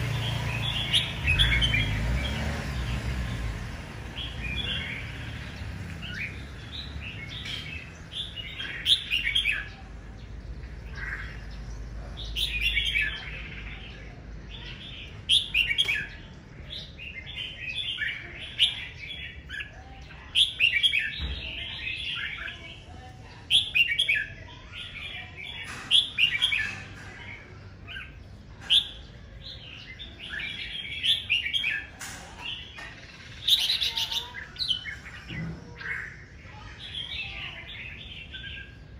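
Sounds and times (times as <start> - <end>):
bird chirping phrases: 0.0 - 38.9.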